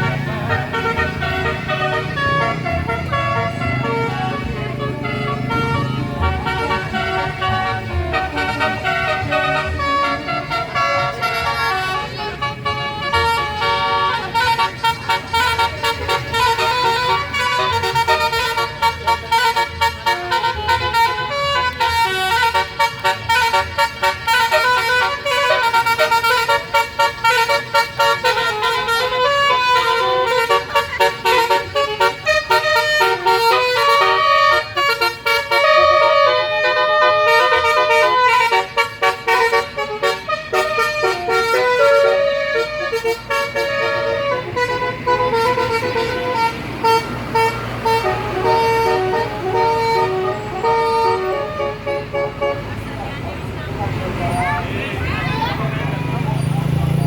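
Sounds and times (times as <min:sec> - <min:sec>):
bus musical horn melody: 0:00.0 - 0:57.0.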